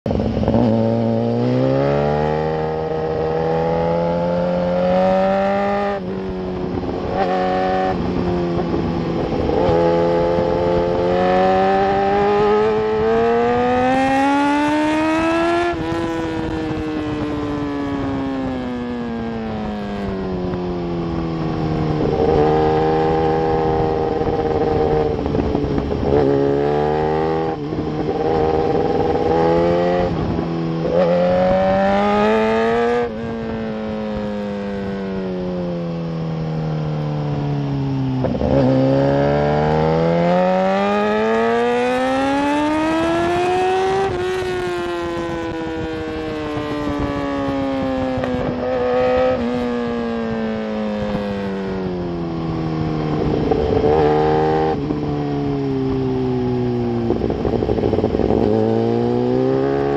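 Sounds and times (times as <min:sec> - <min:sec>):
motorcycle engine at full throttle: 0:00.0 - 0:59.9.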